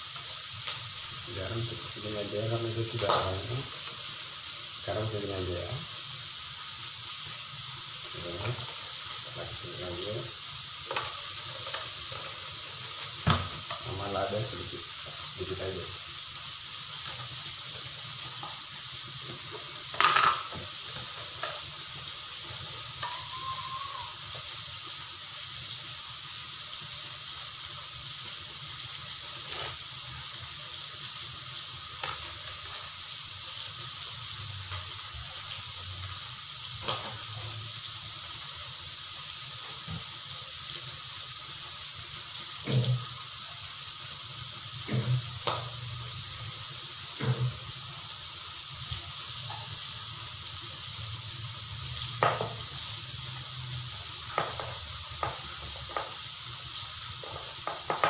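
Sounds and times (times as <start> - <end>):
stir-fry sizzling in a wok: 0.0 - 58.0.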